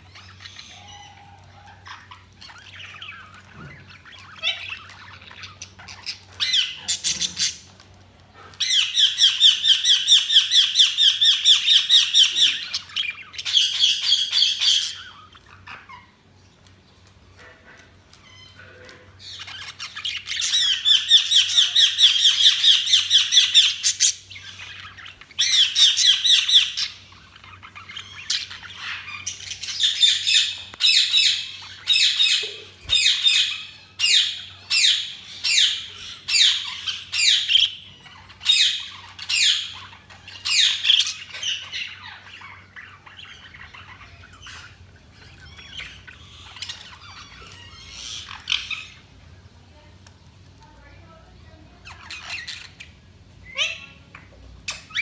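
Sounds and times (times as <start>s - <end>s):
budgerigars chirping and squawking: 0.0s - 49.9s, 50.9s - 55.0s.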